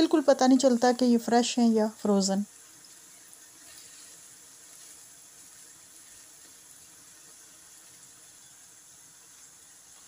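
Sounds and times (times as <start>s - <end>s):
faint sizzle of frying: 0.0s - 10.0s.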